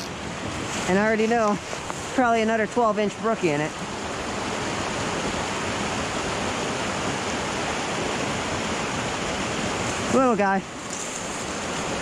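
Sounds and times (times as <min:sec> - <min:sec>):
stream cascading over boulders: 0:00.0 - 0:12.0.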